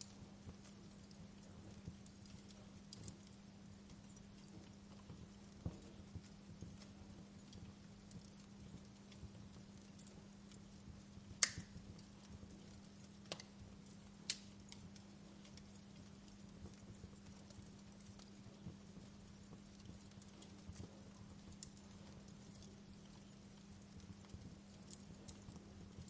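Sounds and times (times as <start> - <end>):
faint low hum: 0.0 - 26.0
fire crackling and popping: 0.0 - 26.0.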